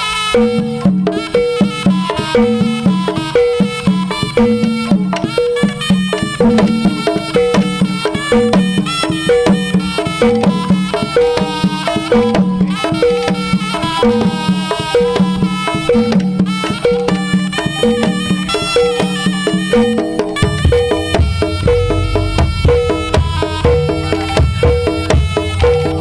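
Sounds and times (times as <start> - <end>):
gamelan ensemble with drums and gongs: 0.0 - 26.0.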